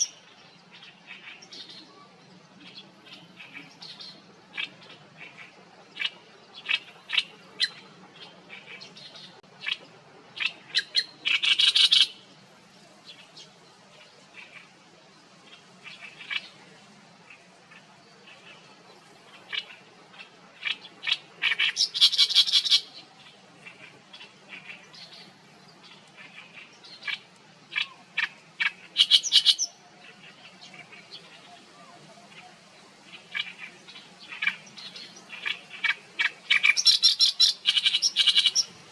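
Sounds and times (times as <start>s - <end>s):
reed warbler singing: 0.0s - 38.9s.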